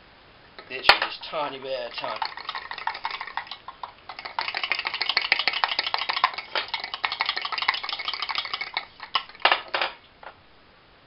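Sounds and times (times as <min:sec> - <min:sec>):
whisk beating in ceramic bowl: 0:00.6 - 0:09.6.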